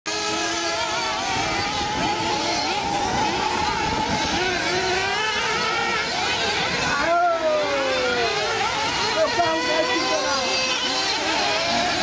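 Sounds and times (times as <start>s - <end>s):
model car engines revving high: 0.1s - 12.0s.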